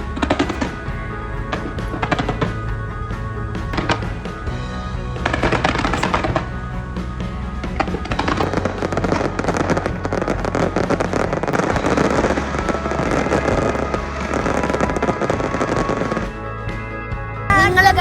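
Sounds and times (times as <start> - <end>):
fireworks bangs and crackles: 0.0 - 16.4
music playing: 0.0 - 18.0.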